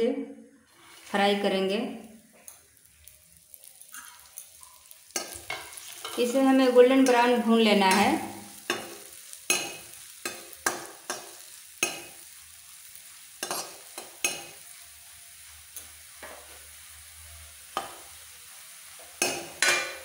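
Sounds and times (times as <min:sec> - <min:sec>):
faint frying sizzle: 0:00.6 - 0:20.0.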